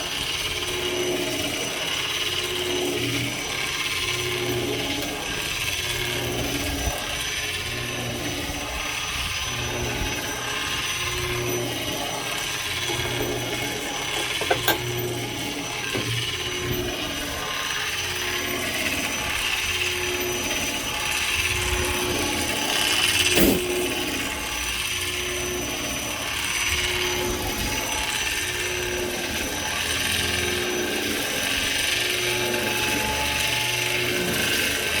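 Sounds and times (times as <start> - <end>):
spindle sander sanding wood: 0.0 - 35.0.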